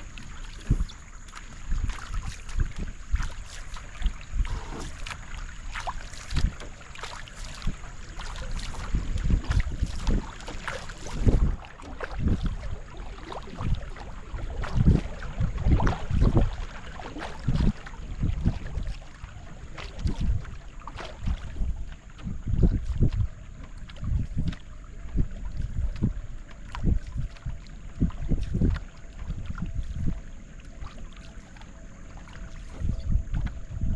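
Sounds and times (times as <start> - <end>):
wind buffeting microphone: 0.0 - 31.4, 32.1 - 33.9
canoe paddle splashing in water: 0.0 - 33.9.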